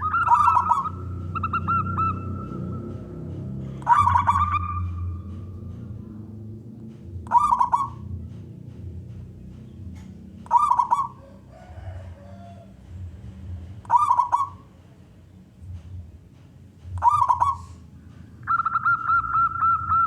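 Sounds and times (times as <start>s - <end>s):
dove cooing: 0.0s - 8.5s, 9.8s - 14.7s, 16.8s - 20.0s
low background rumble: 0.0s - 20.0s.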